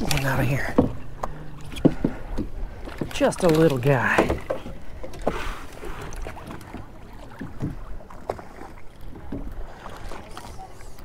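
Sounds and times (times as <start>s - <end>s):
water against boat hull: 0.0s - 11.0s.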